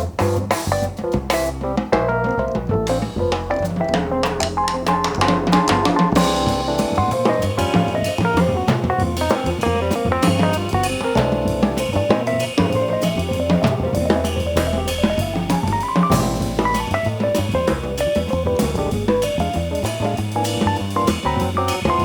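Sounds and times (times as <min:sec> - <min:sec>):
jazz band playing: 0:00.0 - 0:22.0.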